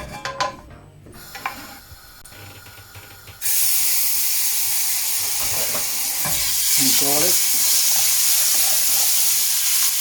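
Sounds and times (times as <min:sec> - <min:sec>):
food sizzling in hot oil: 0:01.2 - 0:10.0.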